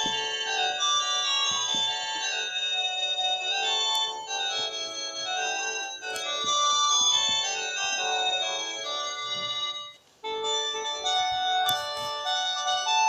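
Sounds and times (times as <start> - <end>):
cordless phone ringtone melody: 0.0 - 13.0.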